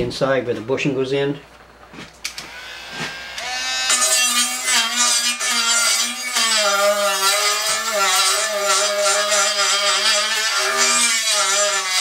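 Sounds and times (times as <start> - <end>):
rotary tool grinding whine: 2.3 - 12.0.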